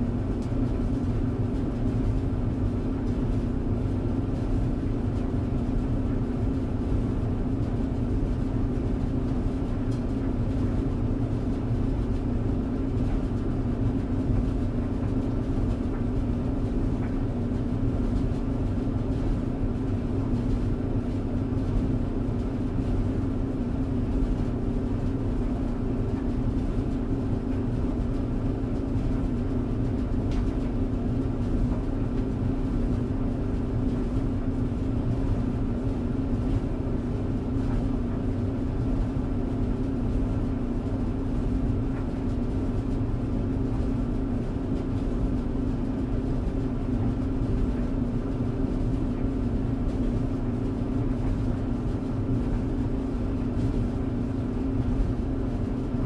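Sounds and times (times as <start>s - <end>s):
tumble dryer running: 0.0s - 56.0s.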